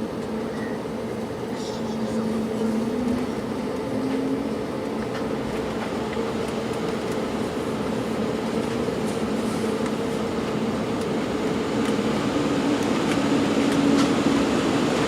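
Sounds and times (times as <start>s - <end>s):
jet engine cabin drone: 0.0s - 15.0s.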